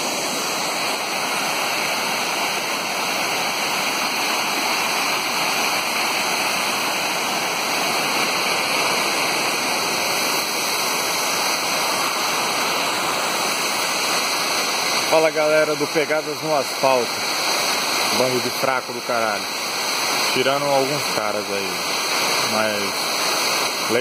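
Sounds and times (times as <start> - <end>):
waterfall pouring: 0.0 - 24.0.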